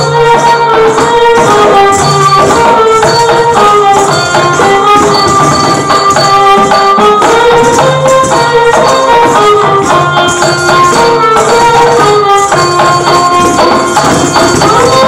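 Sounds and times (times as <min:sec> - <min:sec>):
folk melody: 0:00.0 - 0:15.0
jingling percussion: 0:00.0 - 0:15.0.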